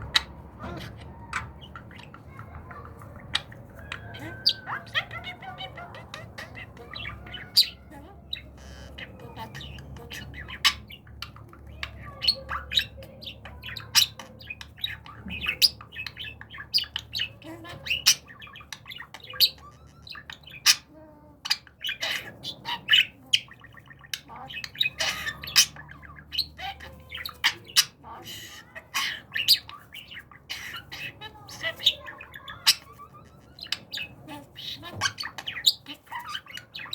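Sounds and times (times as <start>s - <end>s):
budgerigar chirping and squawking: 0.0s - 36.9s.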